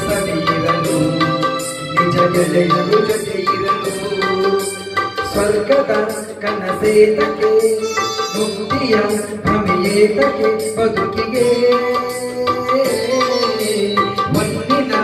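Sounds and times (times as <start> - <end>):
man singing into a microphone: 0.0 - 15.0
percussion steady beat: 0.0 - 15.0
recorded backing track: 0.0 - 15.0.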